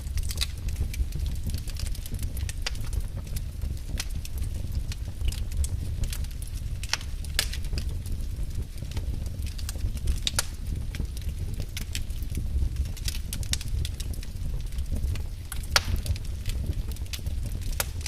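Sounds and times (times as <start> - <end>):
low steady rumble: 0.0 - 18.0
wood fire crackling and popping: 0.0 - 18.0.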